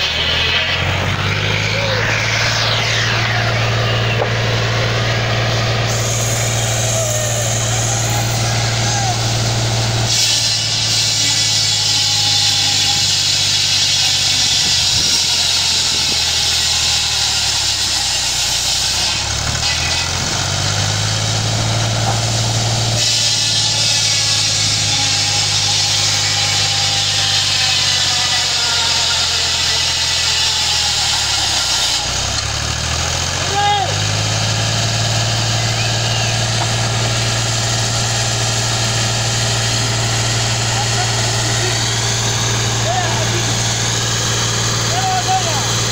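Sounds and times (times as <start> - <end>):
circular saw cutting timber: 0.0 - 45.9
tractor engine running: 0.0 - 45.9.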